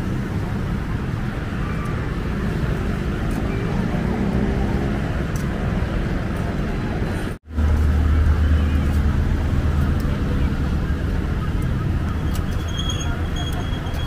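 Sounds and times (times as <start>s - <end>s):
faint voices: 0.0s - 14.0s
low traffic rumble: 0.0s - 14.0s.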